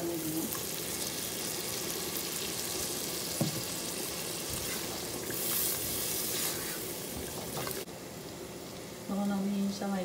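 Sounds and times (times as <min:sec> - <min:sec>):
masala sizzling in hot oil: 0:00.0 - 0:10.0.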